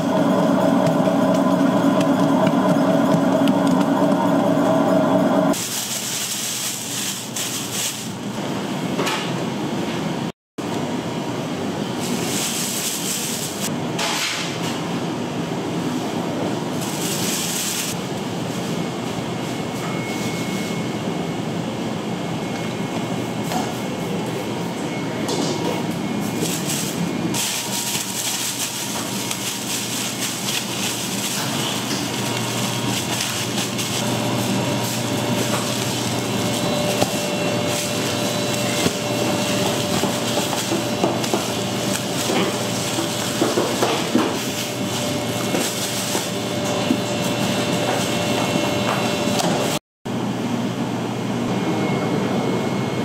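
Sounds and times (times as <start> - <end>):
mechanical hum: 0.0 - 53.0.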